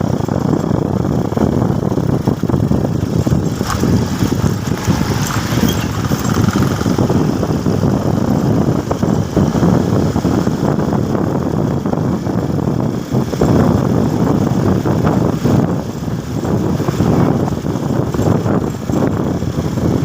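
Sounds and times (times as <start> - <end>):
motorcycle engine and road noise: 0.0 - 20.0.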